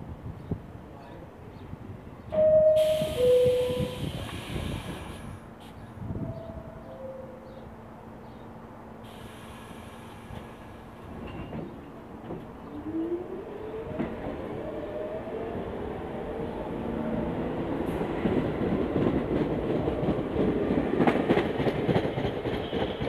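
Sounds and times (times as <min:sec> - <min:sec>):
subway train motors whining: 0:00.1 - 0:23.0.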